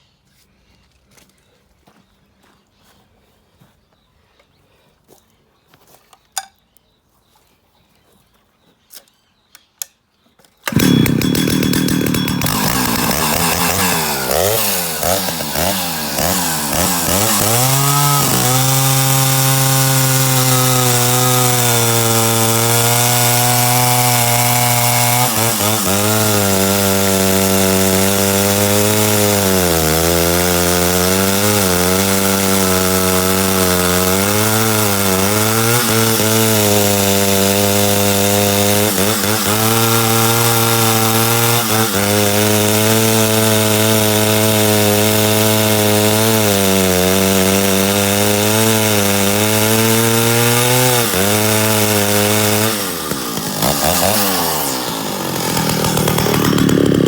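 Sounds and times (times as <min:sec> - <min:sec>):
chainsaw revving and cutting wood: 0:10.6 - 0:57.0.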